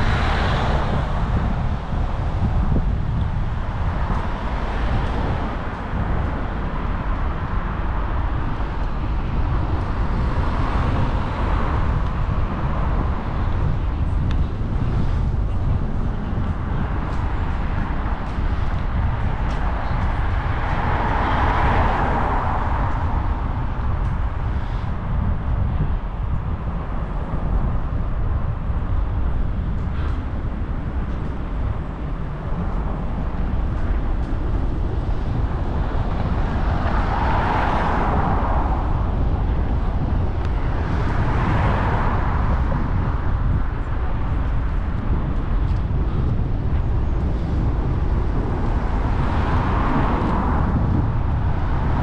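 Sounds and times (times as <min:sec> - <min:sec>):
vehicles passing: 0:00.0 - 0:52.0
wind and road noise: 0:00.0 - 0:52.0.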